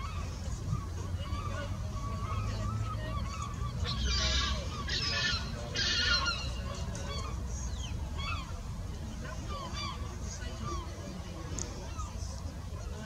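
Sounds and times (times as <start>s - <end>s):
harsh bird calls: 0.0s - 11.2s.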